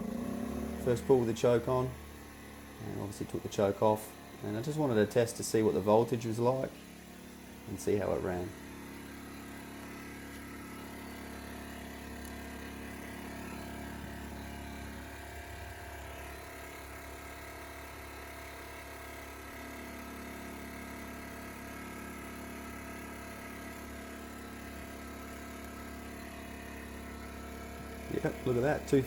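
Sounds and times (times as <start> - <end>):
generator engine running: 0.0 - 29.0.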